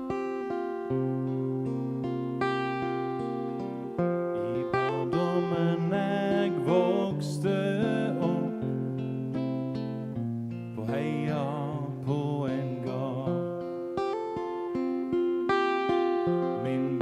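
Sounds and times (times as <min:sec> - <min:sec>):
acoustic guitar: 0:00.0 - 0:17.0.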